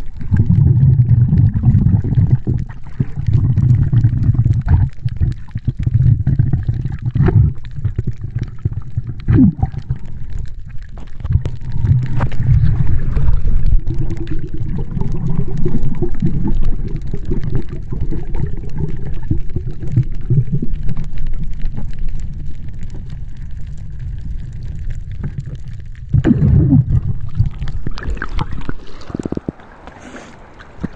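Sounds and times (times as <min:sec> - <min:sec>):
muffled underwater rushing: 0:00.0 - 0:30.9.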